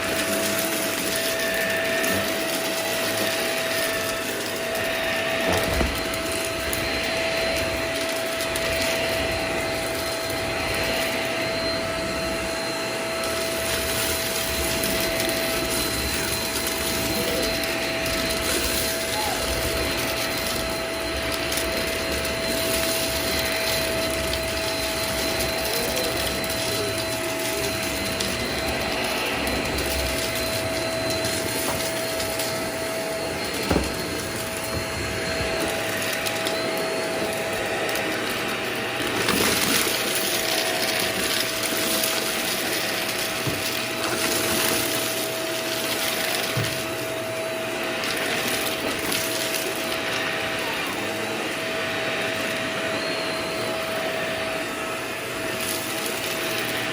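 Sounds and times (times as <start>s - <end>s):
vacuum cleaner whine: 0.0s - 56.9s.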